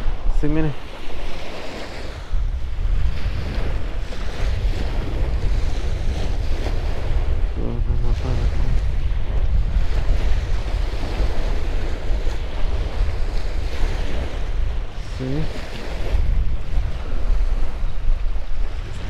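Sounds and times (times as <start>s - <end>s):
small waves washing on shore: 0.0s - 19.0s
wind buffeting microphone: 0.0s - 19.0s.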